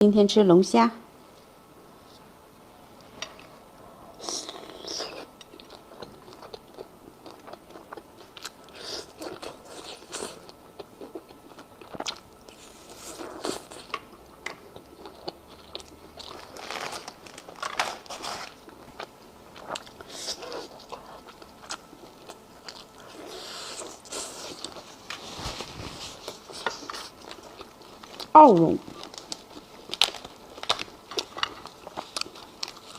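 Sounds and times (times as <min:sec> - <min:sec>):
crunching and chewing shellfish: 0:04.1 - 0:25.2, 0:26.0 - 0:32.9.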